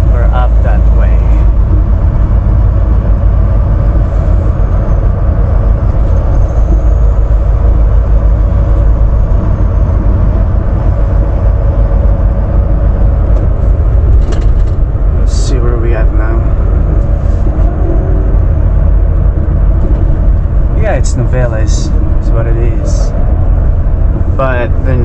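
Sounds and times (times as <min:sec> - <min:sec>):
truck diesel engine rumble: 0:00.0 - 0:25.0.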